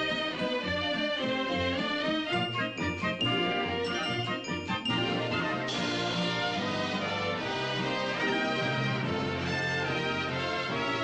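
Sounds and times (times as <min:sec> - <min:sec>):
orchestral music: 0:00.0 - 0:11.0.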